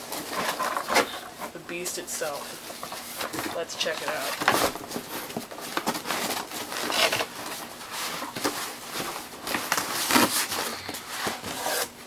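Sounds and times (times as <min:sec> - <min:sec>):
packaging rustling and crinkling: 0:00.0 - 0:01.6, 0:02.3 - 0:12.0.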